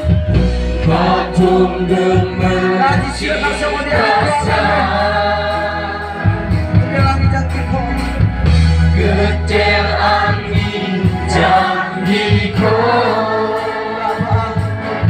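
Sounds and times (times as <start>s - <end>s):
group of voices singing: 0.0s - 6.8s, 8.7s - 15.0s
amplified guitars: 0.0s - 15.0s
low bass notes: 0.0s - 15.0s
steady drum beat: 0.0s - 15.0s.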